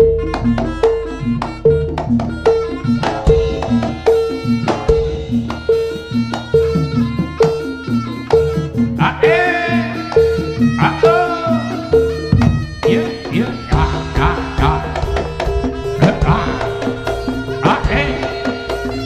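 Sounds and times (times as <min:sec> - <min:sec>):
drums: 0:00.0 - 0:19.0
shrill reed melody: 0:00.0 - 0:19.0.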